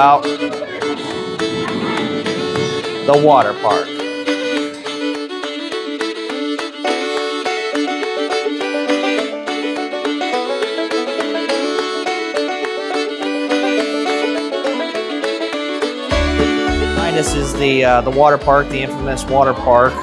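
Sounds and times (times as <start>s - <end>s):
bluegrass fiddle and banjo music: 0.0s - 20.0s.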